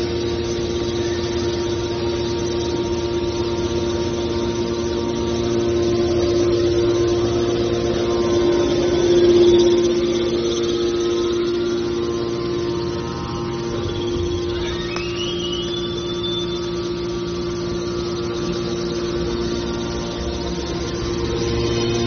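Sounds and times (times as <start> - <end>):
electric motors humming: 0.0 - 22.0
rising whine: 0.0 - 22.0.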